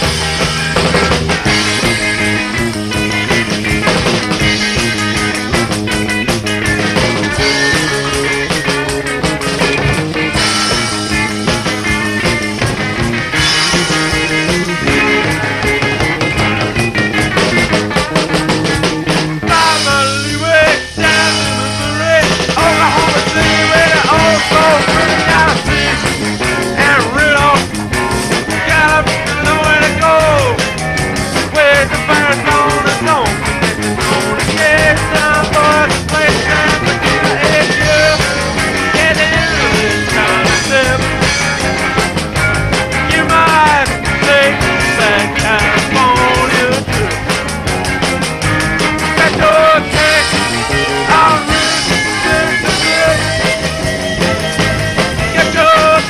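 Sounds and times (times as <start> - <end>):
bass guitar: 0.0 - 56.0
drums: 0.0 - 56.0
electric guitars: 0.0 - 56.0
lead guitar bending notes: 0.0 - 56.0.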